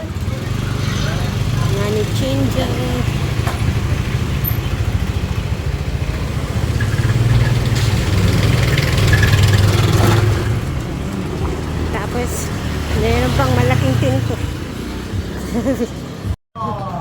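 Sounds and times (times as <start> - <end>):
vehicle engine passing by: 0.0 - 16.4.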